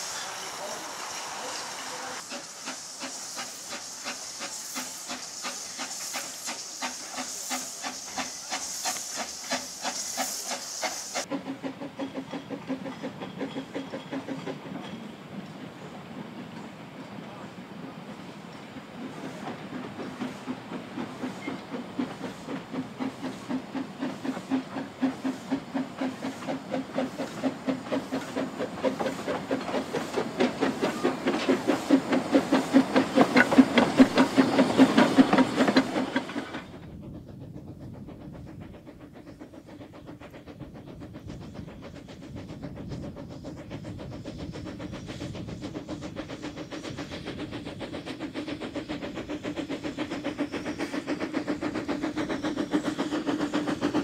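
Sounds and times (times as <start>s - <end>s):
distant steam locomotive: 0.0s - 54.0s
steam locomotive chuffing: 0.0s - 54.0s.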